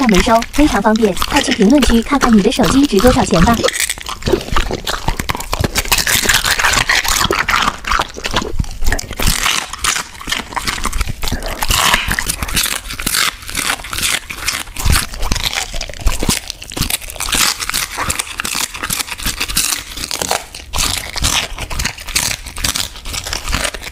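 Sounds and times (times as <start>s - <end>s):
dog crunching sprouts: 0.0s - 23.9s.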